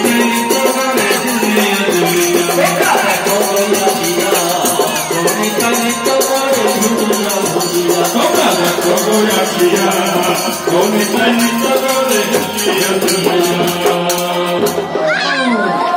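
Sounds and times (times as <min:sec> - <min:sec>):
jingling metal percussion: 0:00.0 - 0:15.1
voices singing: 0:00.0 - 0:15.9.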